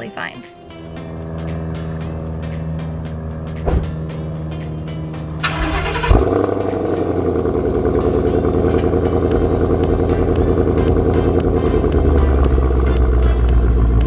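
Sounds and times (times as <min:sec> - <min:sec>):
car engine starting and running: 0:00.6 - 0:14.0.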